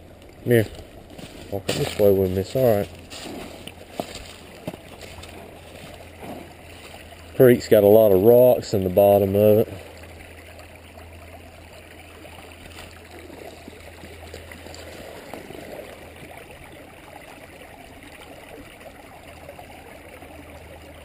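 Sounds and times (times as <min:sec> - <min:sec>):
creek water flowing over stones: 0:00.0 - 0:21.0.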